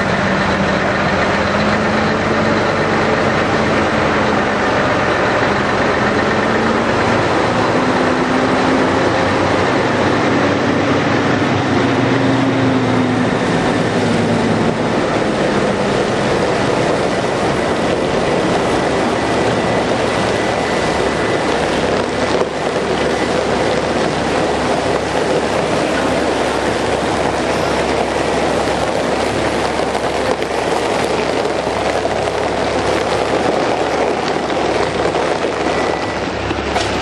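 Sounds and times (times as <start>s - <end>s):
heavy machinery running: 0.0s - 37.0s.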